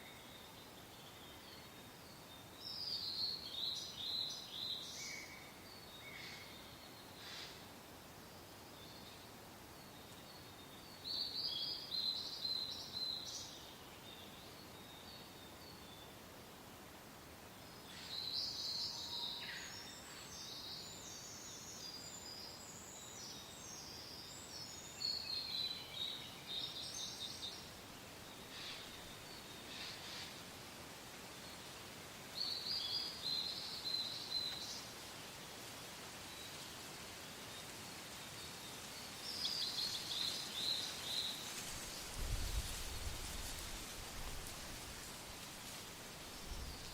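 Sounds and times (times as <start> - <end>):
faint wind hiss: 0.0 - 46.9
songbirds chirping: 0.0 - 46.9.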